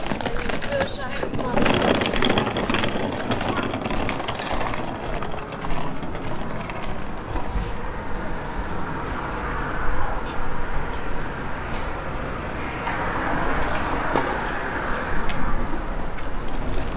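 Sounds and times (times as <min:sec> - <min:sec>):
traffic: 0:00.0 - 0:16.9.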